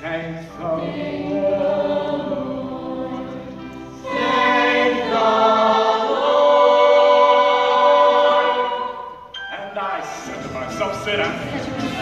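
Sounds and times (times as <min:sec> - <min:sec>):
young voices singing in harmony: 0:00.1 - 0:09.3, 0:11.4 - 0:12.0.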